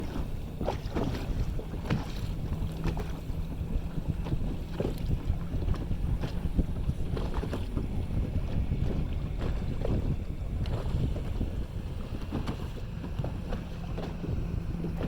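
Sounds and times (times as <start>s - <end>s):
motorboat engine rumble: 0.0s - 15.0s
water splashing against hull: 0.0s - 15.0s
wind buffeting microphone: 0.0s - 15.0s.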